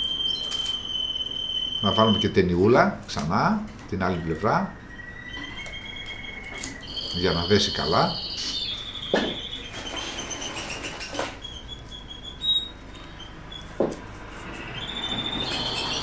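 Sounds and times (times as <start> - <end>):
canary singing: 0.0 - 2.5, 3.9 - 13.8, 14.4 - 16.0.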